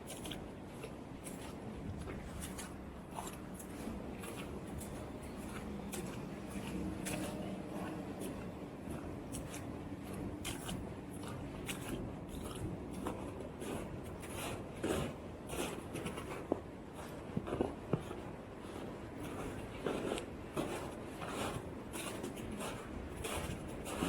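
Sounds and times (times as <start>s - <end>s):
footsteps crunching through snow: 1.2s - 24.0s.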